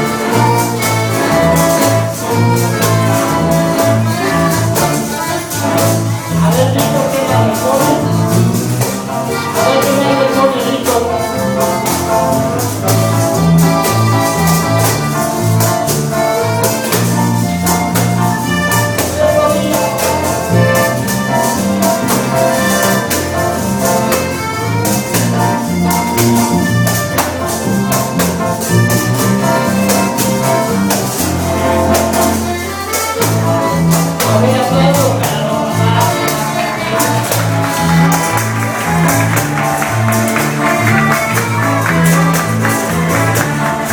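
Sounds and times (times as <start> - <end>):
polka band playing: 0.0 - 43.9
tambourine and hand percussion: 0.0 - 43.9.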